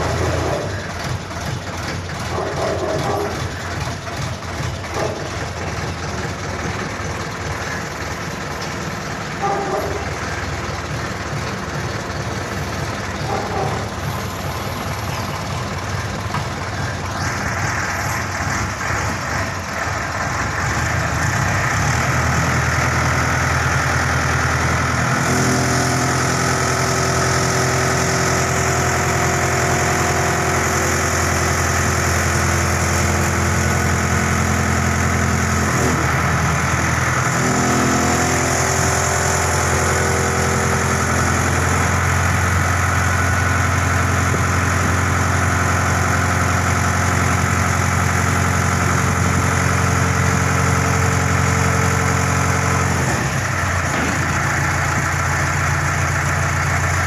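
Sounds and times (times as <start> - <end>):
diesel generator engine running: 0.0 - 57.0.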